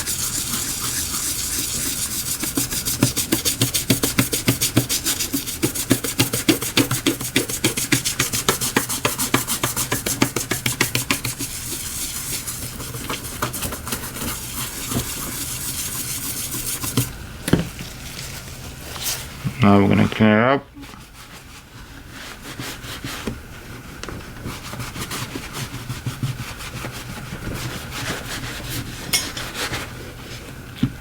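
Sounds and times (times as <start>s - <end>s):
brush scrubbing on a phone: 0.0s - 17.1s, 20.8s - 23.3s, 24.4s - 29.9s.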